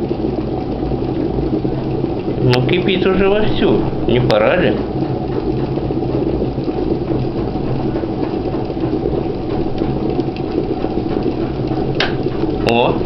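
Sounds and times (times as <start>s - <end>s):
kettle water boiling: 0.0s - 13.0s.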